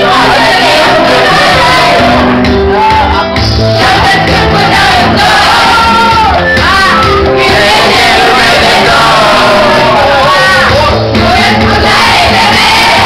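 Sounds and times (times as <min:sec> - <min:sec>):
girls singing and shouting: 0:00.0 - 0:13.0
loud music through loudspeaker: 0:00.0 - 0:13.0.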